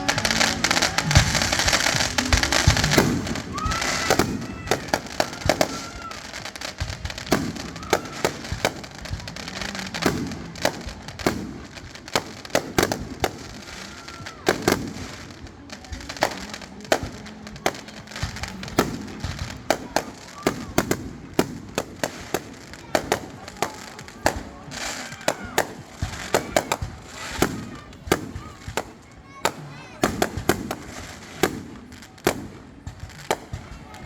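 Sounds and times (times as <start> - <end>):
fireworks bangs: 0.0 - 34.0
fireworks whistling: 0.0 - 34.0.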